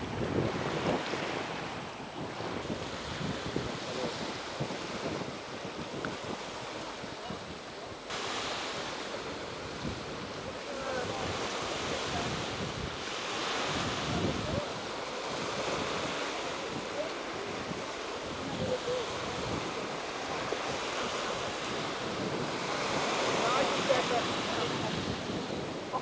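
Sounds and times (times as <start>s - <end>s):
small waves washing on beach: 0.0s - 26.0s
wind on microphone: 0.0s - 26.0s.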